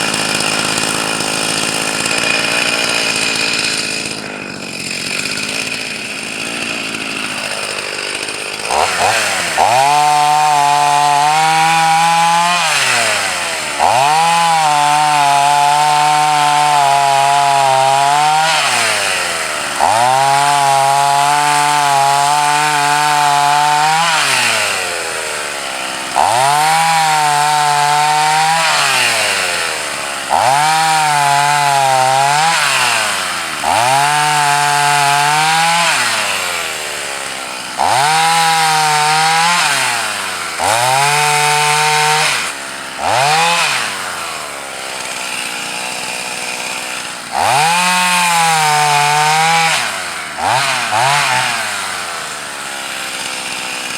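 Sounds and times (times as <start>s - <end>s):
chainsaw cutting a log: 0.0s - 53.9s.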